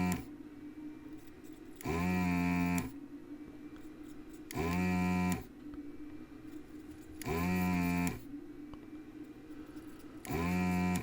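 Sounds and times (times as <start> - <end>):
vacuum pump humming bursts: 0.0 - 11.0.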